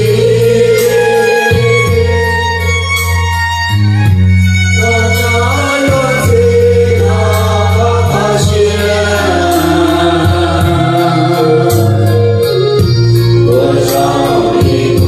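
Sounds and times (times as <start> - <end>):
voices singing together: 0.0 - 3.2, 4.8 - 15.0
long held bass notes: 0.0 - 15.0.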